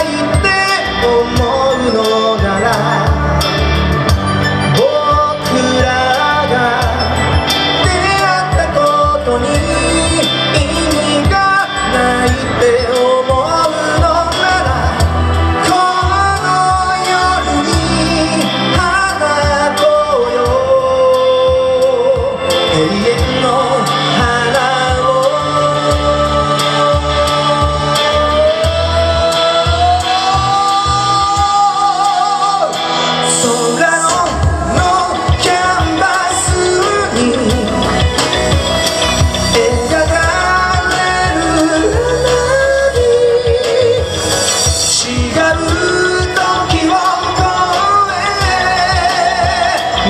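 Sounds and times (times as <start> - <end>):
man singing: 0.0 - 50.0.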